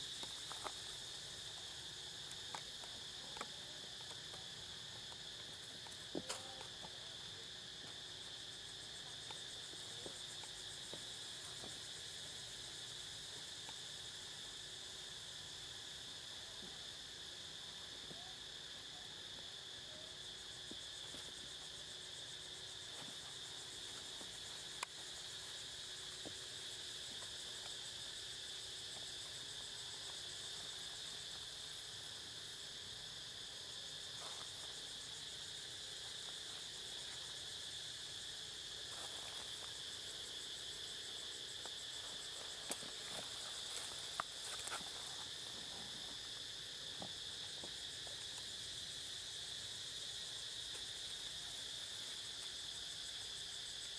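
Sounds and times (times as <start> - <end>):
shrill insect chorus: 0.0 - 53.9.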